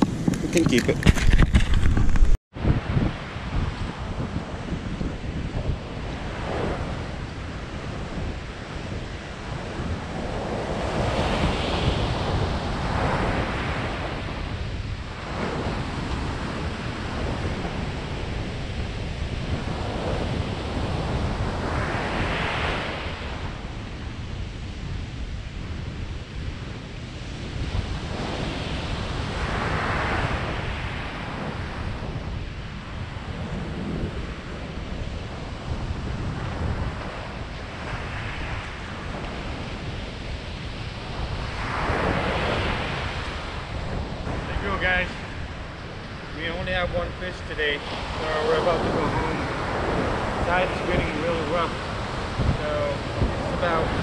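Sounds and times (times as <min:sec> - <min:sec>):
ocean surf breaking on beach: 0:00.0 - 0:54.0
wind rumble on microphone: 0:00.0 - 0:54.0.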